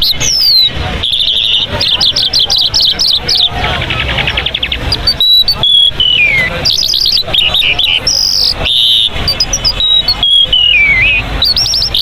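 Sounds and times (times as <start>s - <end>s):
songbird singing trills and whistles: 0.0s - 12.0s.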